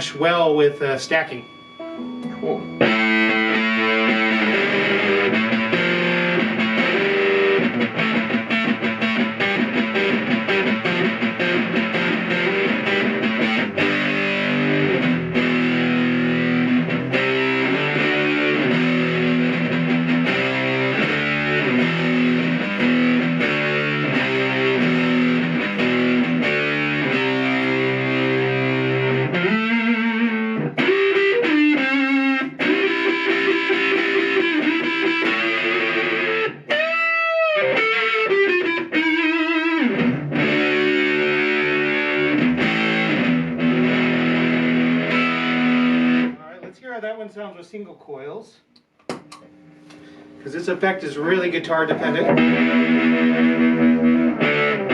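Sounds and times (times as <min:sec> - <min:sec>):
mildly driven electric guitar riff: 0:00.0 - 0:46.7, 0:49.1 - 0:54.9.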